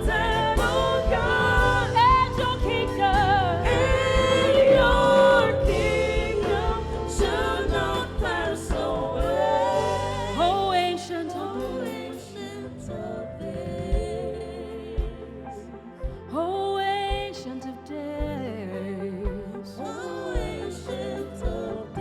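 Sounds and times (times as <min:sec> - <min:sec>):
gospel worship singing: 0:00.0 - 0:22.0
instrumental backing: 0:00.0 - 0:22.0.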